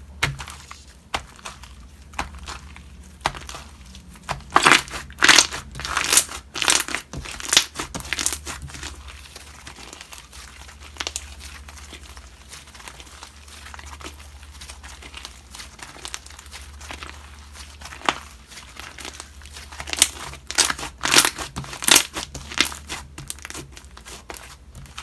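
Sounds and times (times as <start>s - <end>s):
slime popping and crinkling: 0.0s - 25.0s.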